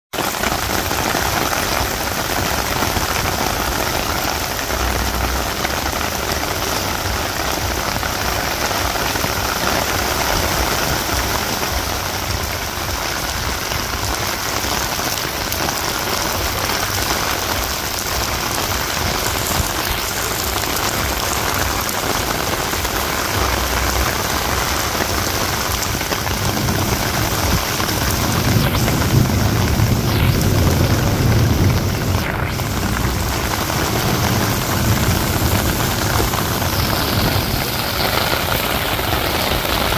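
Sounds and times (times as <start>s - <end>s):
heavy rain on the ground: 0.1s - 39.9s
low rumbles: 0.4s - 39.9s.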